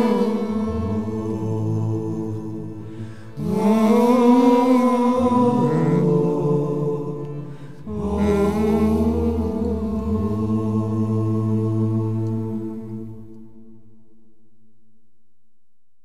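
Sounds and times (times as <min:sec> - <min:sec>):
voices singing in harmony: 0:00.0 - 0:13.8.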